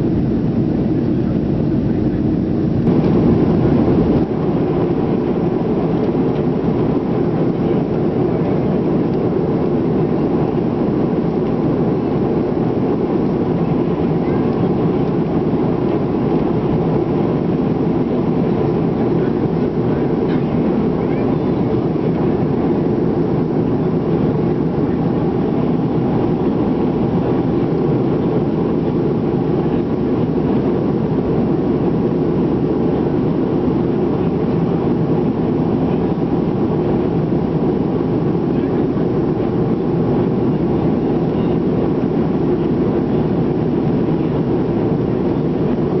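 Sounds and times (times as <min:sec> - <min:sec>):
airplane cabin engine and airflow noise: 0:00.0 - 0:46.0.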